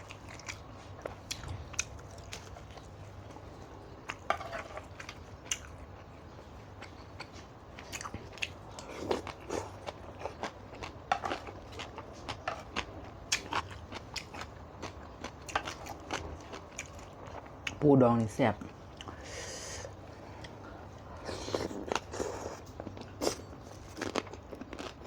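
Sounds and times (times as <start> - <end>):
person chewing crunchy food: 0.0 - 17.8, 18.7 - 25.0
steady low hum: 0.0 - 25.0.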